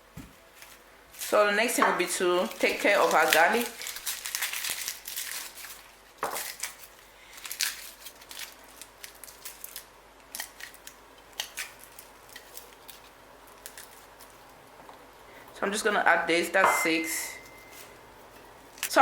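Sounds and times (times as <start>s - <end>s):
garlic skins crackling: 0.5s - 16.4s, 17.3s - 19.0s.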